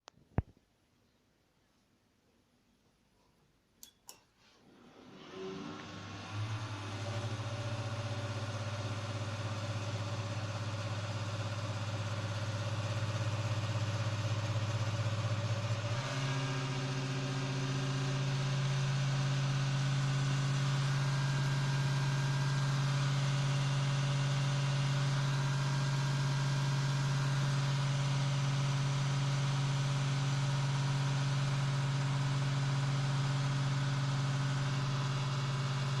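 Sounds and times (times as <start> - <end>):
computer fan humming: 5.2 - 36.0.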